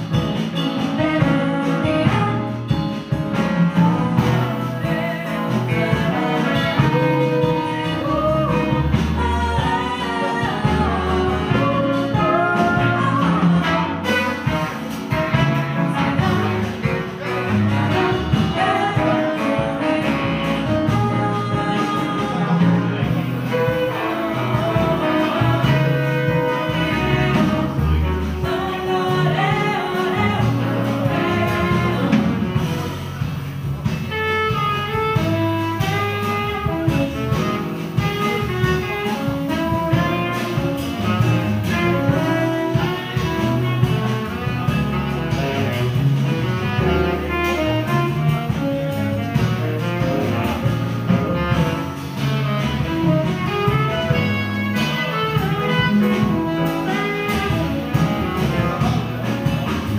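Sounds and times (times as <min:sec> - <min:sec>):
jazz ensemble playing: 0:00.0 - 0:59.9.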